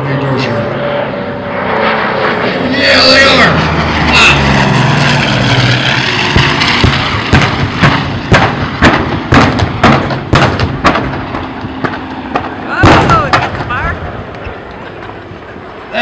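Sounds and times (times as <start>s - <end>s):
aircraft engines passing low: 0.0s - 16.0s
sharp explosions: 1.5s - 14.4s.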